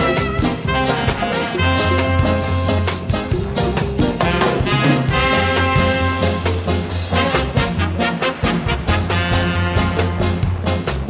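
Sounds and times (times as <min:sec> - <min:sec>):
background music with brisk beat: 0:00.0 - 0:11.0.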